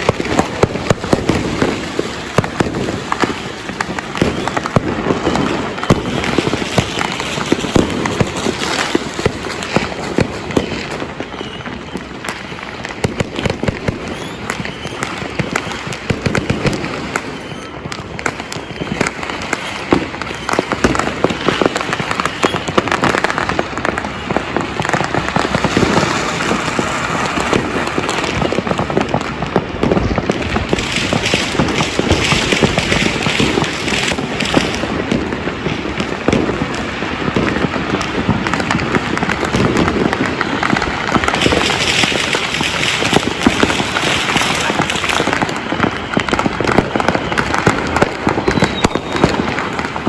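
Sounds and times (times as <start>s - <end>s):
fireworks crackling: 0.0s - 50.0s
sharp firecracker bangs: 0.0s - 50.0s.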